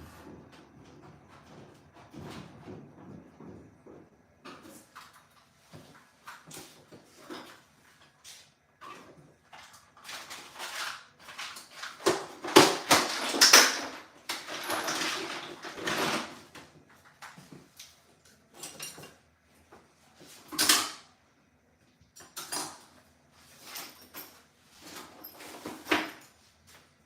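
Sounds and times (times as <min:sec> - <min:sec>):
parts and tools being handled: 0:00.1 - 0:21.0, 0:22.2 - 0:26.9.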